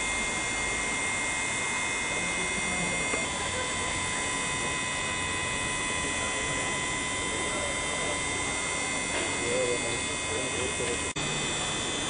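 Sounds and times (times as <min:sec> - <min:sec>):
high-pitched whines: 0:00.0 - 0:12.0.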